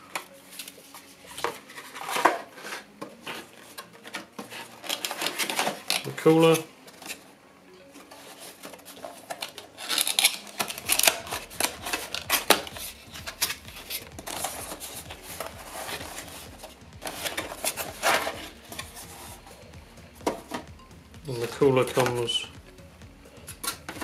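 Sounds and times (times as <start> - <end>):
cardboard rustling and scraping: 0.0 - 7.3, 8.0 - 20.7, 21.3 - 22.5.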